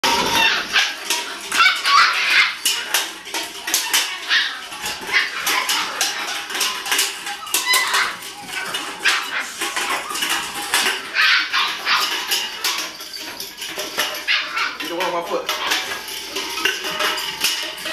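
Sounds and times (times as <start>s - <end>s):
puppies yapping and yelping: 0.0s - 17.9s.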